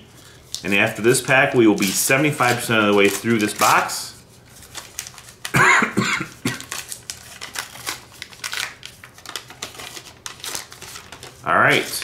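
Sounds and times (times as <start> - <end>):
foil wrapper crinkling: 0.2 - 5.7, 6.4 - 12.0.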